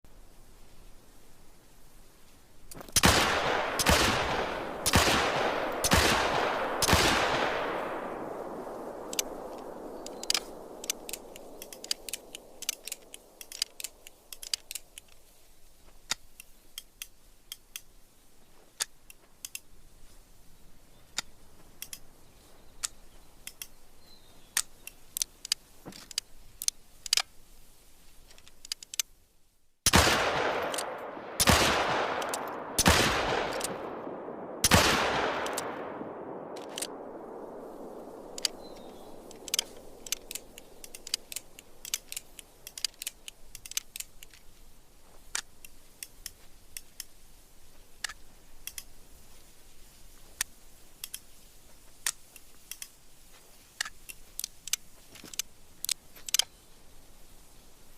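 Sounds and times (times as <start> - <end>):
small sharp clicks: 2.7 - 18.0, 18.7 - 19.7, 21.0 - 27.4, 28.2 - 29.2, 29.9 - 47.3, 47.9 - 57.0.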